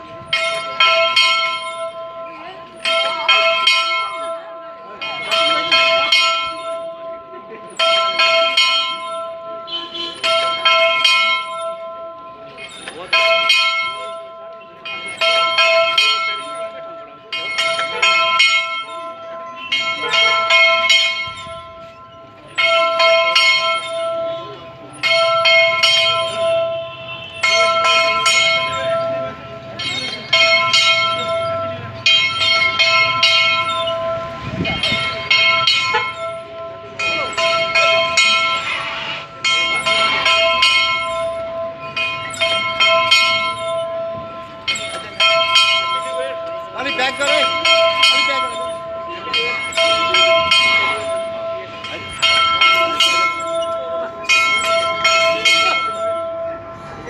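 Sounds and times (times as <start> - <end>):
church bell ringing: 0.0 - 57.0.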